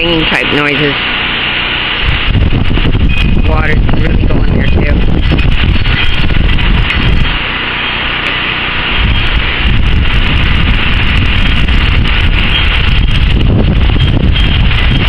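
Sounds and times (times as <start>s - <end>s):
gusting wind buffeting microphone: 0.0s - 15.0s.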